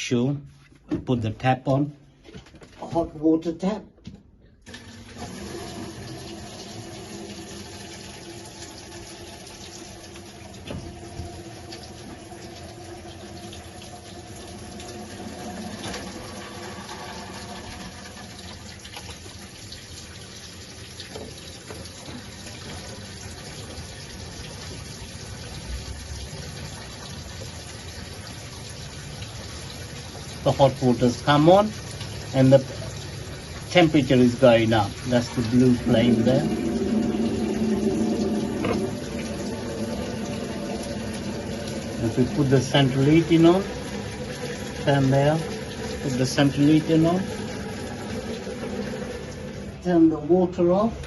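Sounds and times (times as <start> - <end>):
tap water running: 4.6 - 51.0.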